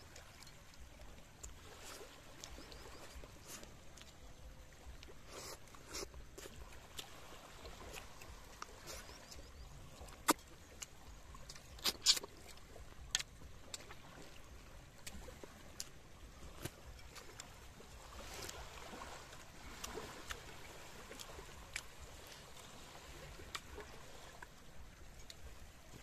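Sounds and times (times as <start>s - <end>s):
small waves lapping: 0.0s - 26.0s.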